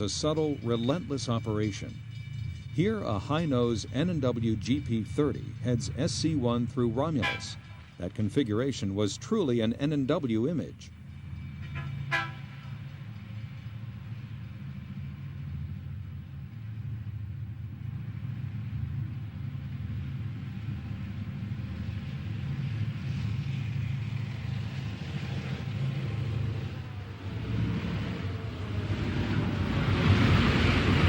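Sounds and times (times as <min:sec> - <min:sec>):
diesel locomotive engine rumbling: 0:00.0 - 0:31.0
train wheels on rails: 0:00.0 - 0:31.0.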